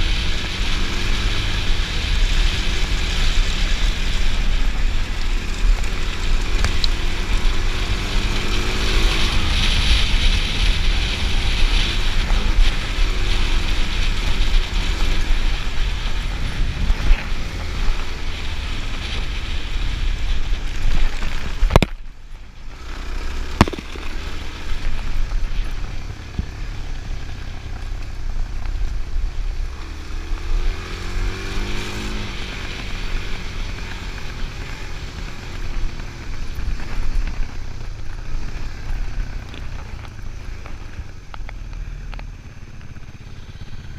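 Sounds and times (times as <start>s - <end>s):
motorcycle engine revving: 0.0s - 43.9s
wind rumble on microphone: 0.0s - 43.9s.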